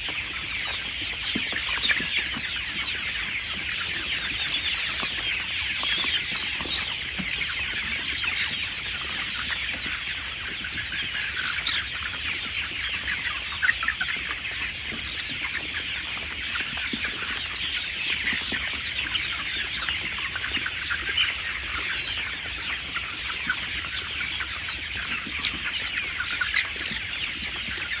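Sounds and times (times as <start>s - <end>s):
chicks peeping and clucking: 0.0s - 28.0s.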